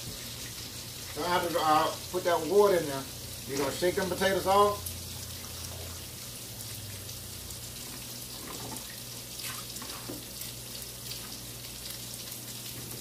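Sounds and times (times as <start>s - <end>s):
croquettes sizzling in oil: 0.0s - 13.0s.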